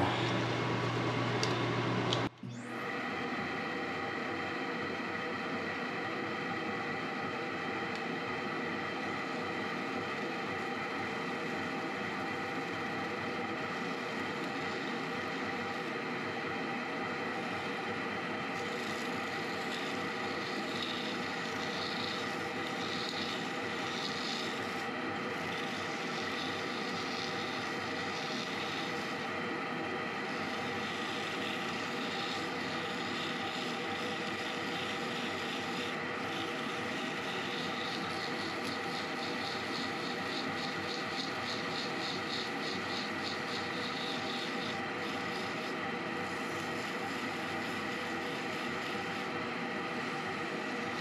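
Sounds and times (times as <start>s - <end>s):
lathe motor whining: 0.0s - 51.0s.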